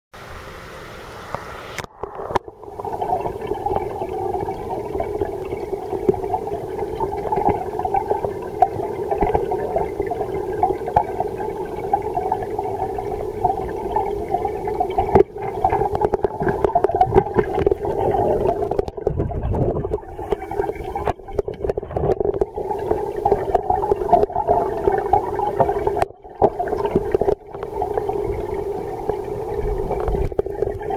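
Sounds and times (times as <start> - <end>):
underwater bubbling and gurgling: 1.1 - 30.9.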